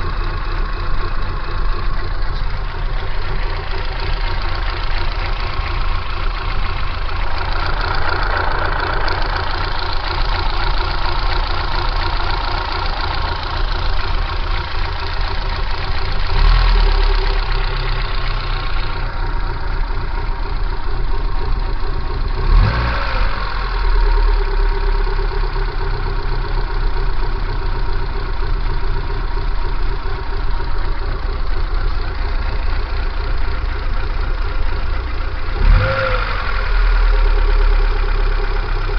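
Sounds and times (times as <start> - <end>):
car engine idling with jolting: 0.0 - 38.9.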